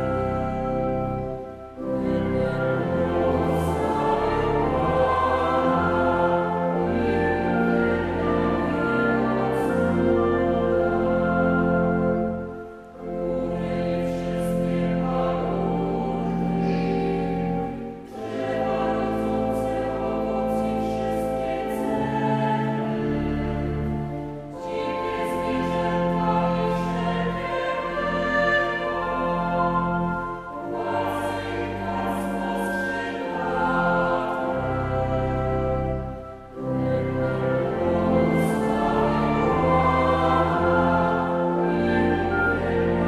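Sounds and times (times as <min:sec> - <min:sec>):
choir singing a hymn: 0:00.0 - 0:43.0
pipe organ: 0:00.0 - 0:43.0.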